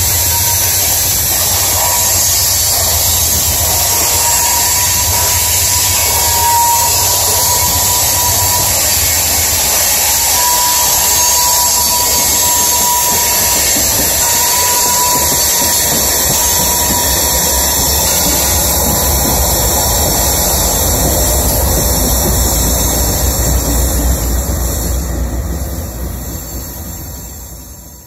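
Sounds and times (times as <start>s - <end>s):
diesel locomotive engine rumble: 0.0s - 28.0s
wheel screech against rail: 0.0s - 28.0s.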